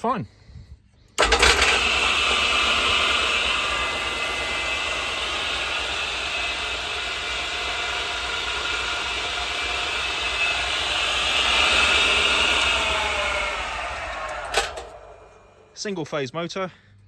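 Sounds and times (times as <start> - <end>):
table saw running with high whine: 1.2 - 15.8.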